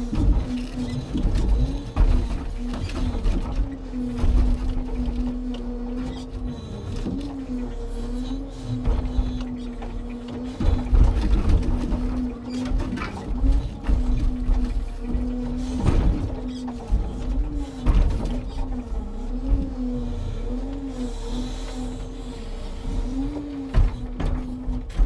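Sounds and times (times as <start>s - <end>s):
crane and logs clunking: 0.0s - 25.0s
hydraulic pump whine: 0.0s - 25.0s.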